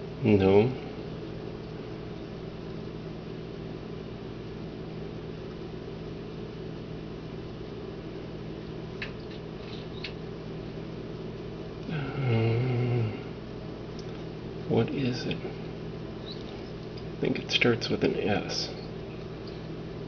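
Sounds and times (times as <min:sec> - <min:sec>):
mechanical hum: 0:00.0 - 0:20.0
room hiss: 0:00.0 - 0:20.0.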